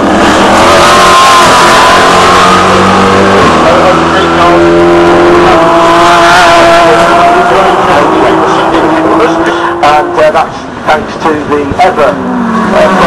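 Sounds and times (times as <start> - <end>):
race car engines passing: 0.0 - 13.0.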